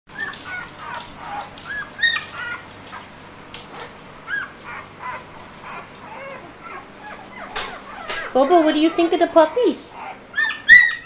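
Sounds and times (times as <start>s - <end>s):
puppy squeaking and whimpering: 0.2s - 3.2s, 4.2s - 11.0s.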